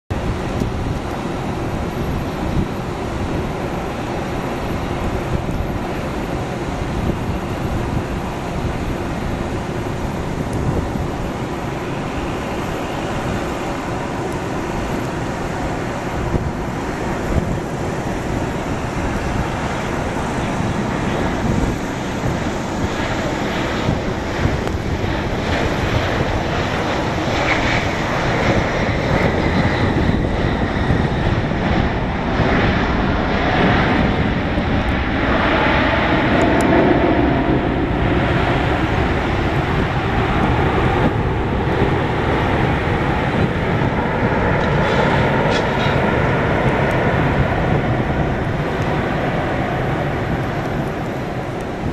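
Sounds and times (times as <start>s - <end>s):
distant jet engine rumble: 0.1s - 51.9s
faint jet whine: 0.1s - 51.9s
wind buffeting microphone: 0.1s - 51.9s.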